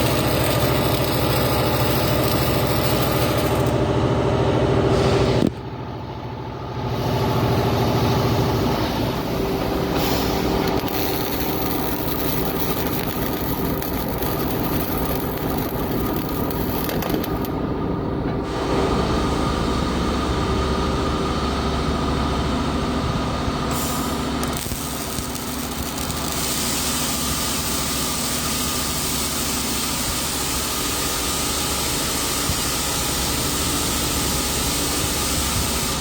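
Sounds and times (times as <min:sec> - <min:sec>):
machine running with low hum: 0:00.0 - 0:36.0.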